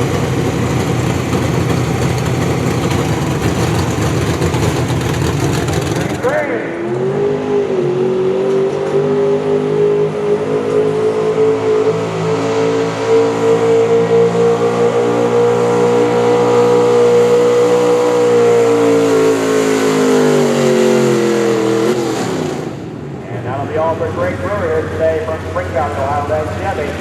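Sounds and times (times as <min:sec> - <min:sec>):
truck engine running under heavy load: 0:00.0 - 0:09.5, 0:10.2 - 0:27.0.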